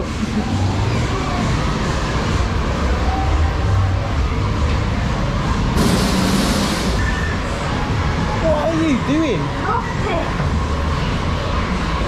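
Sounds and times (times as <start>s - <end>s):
machinery rumbling and rattling: 0.0s - 12.0s.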